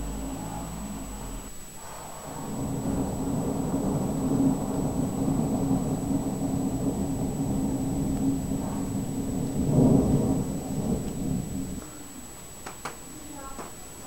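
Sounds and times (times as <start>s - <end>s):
rolling thunder: 0.0s - 12.4s.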